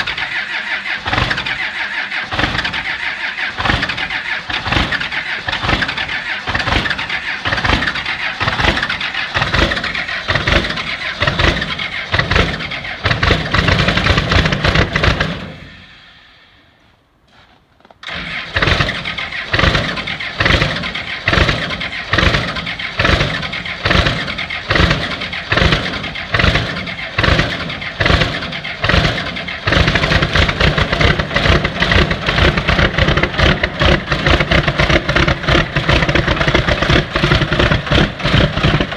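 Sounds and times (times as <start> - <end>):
diesel engine running: 0.0 - 16.9, 18.0 - 38.9.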